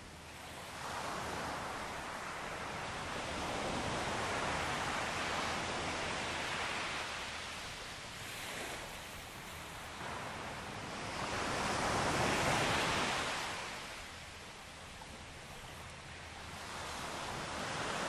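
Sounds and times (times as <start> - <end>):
waves washing on shore: 0.7 - 18.0.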